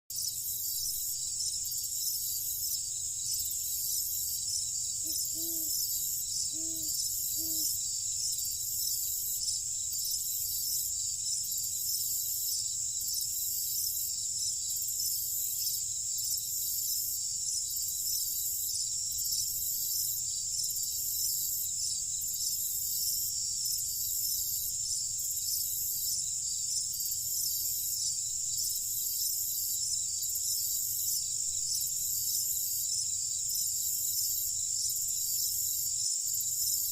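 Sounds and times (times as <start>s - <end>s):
crickets trilling: 0.2s - 36.9s.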